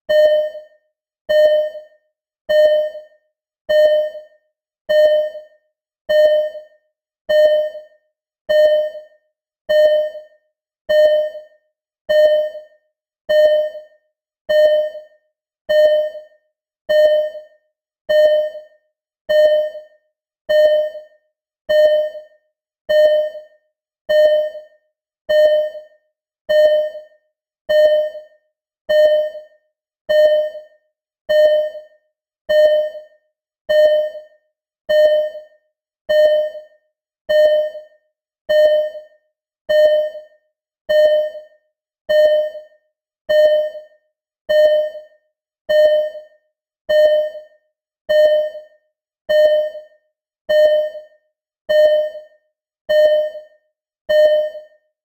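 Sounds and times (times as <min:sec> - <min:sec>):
heart monitor beeps: 0:00.1 - 0:54.8.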